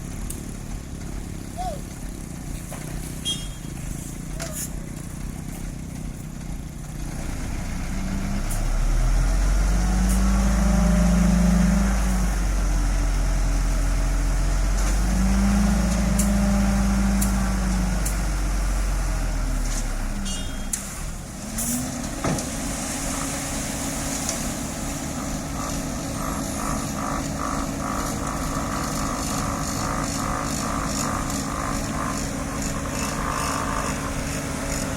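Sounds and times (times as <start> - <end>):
heavy diesel machinery running: 0.0 - 34.9.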